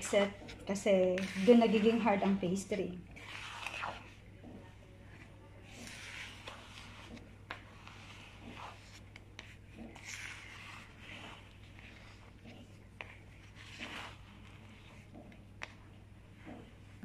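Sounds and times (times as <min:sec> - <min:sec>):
spatula scraping dough in bowl: 0:00.0 - 0:17.0.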